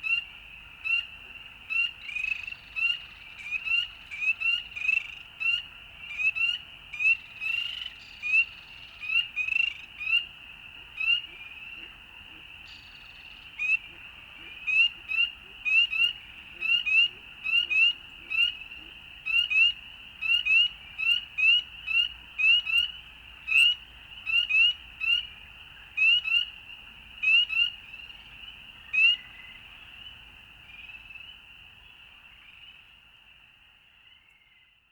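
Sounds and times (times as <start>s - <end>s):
frog chorus: 0.0s - 34.9s.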